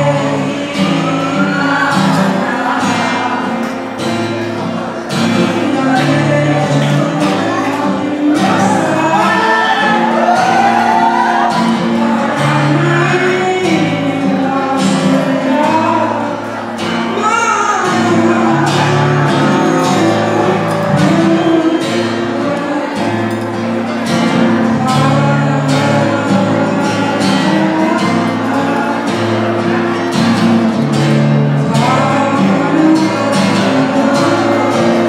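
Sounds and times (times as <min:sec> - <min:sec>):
man singing into microphone: 0:00.0 - 0:35.0
strummed acoustic guitar: 0:00.0 - 0:35.0.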